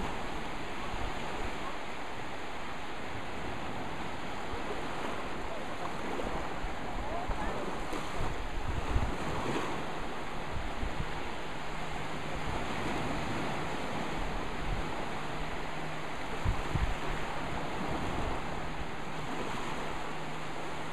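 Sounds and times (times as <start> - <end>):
waves washing on sandy shore: 0.0 - 20.9
wind buffeting microphone: 0.0 - 20.9.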